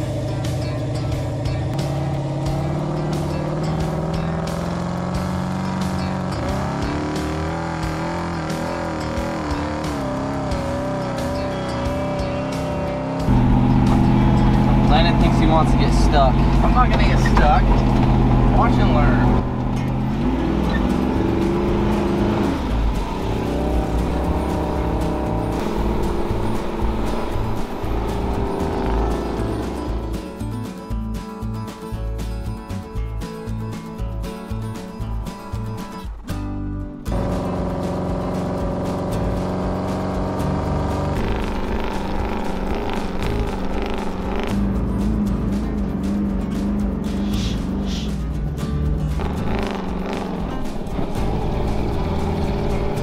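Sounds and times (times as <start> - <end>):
vehicle engine running under load: 0.0 - 31.2, 34.5 - 53.0
background music with a beat: 0.0 - 53.0.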